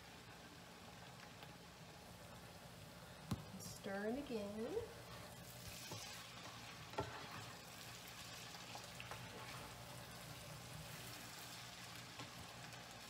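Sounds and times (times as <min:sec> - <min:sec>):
potatoes sizzling in a frying pan: 0:00.0 - 0:13.0.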